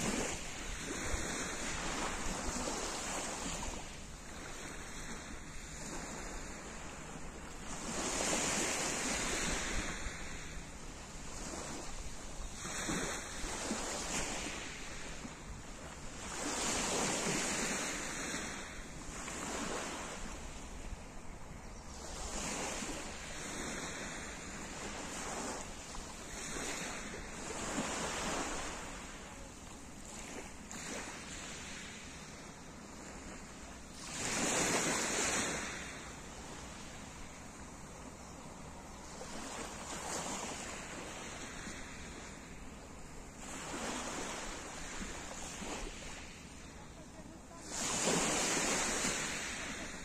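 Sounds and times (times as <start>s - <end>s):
small waves on pebble beach: 0.0s - 10.6s, 11.2s - 20.7s, 22.0s - 38.1s, 39.0s - 42.6s, 43.3s - 50.0s.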